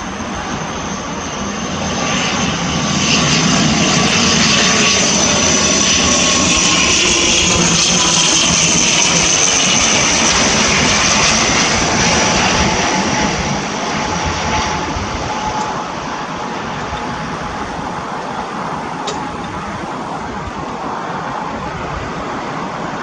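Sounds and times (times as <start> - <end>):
turboprop engines passing: 0.0 - 23.0.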